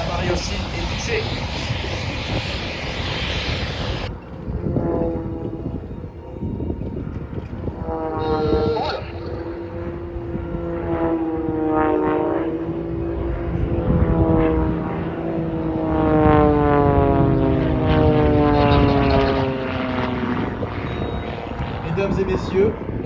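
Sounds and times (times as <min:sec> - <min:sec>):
propeller plane engines overhead: 0:00.0 - 0:23.0.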